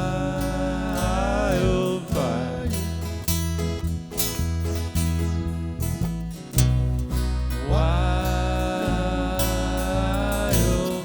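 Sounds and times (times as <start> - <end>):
acoustic guitar strumming: 0.0 - 11.0
bass notes: 0.0 - 11.0
held melody line: 0.0 - 11.0.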